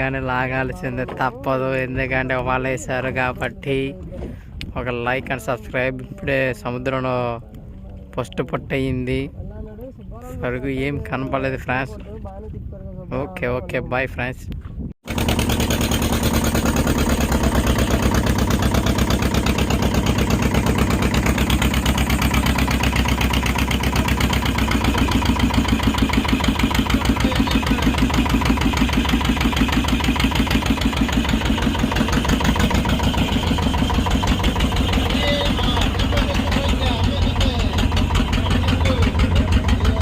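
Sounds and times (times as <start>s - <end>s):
boat engine running: 0.0s - 13.0s, 15.0s - 40.0s.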